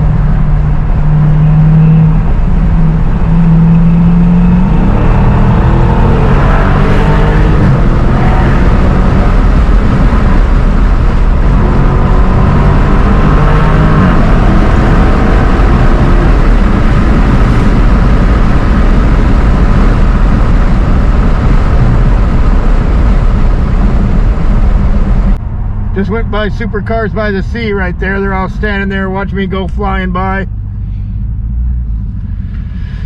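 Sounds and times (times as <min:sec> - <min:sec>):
car engine accelerating hard: 0:00.0 - 0:33.0.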